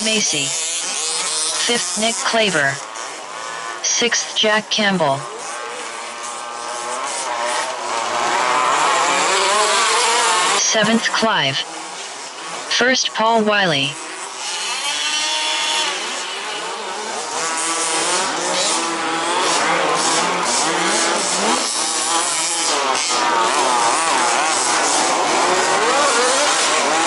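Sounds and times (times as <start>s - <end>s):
remote-control car motors whining: 0.0s - 27.0s.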